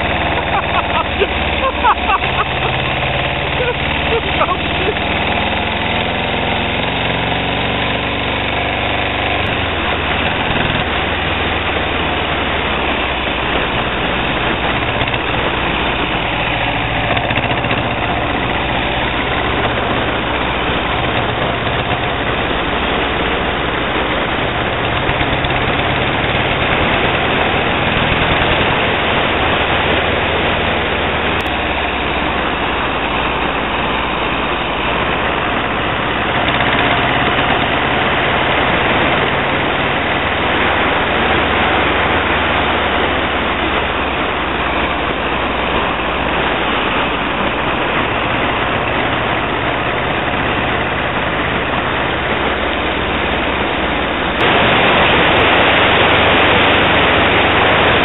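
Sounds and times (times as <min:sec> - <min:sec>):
car engine running at low revs: 0:00.0 - 0:58.0.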